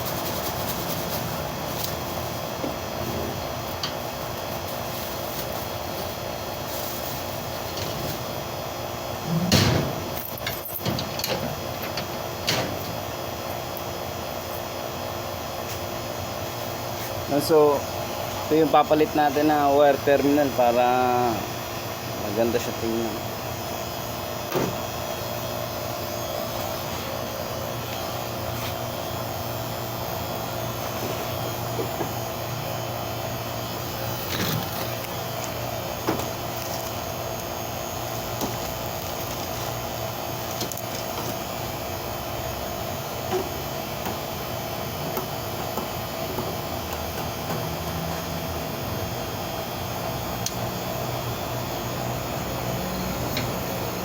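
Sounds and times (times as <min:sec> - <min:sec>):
vacuum pump running: 0:00.0 - 0:54.0.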